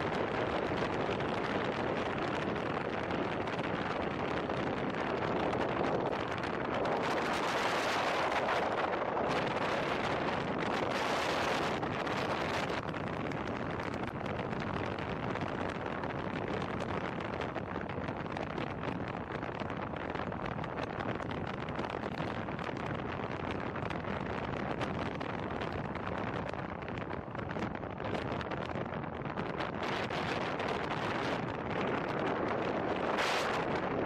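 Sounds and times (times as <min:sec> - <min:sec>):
tyre and road noise: 0:00.0 - 0:34.0
wind rushing over microphone: 0:00.0 - 0:34.0.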